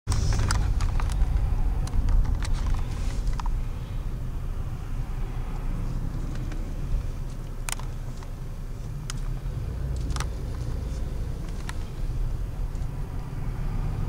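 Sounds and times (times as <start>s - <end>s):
car engine and road rumble: 0.1s - 14.0s.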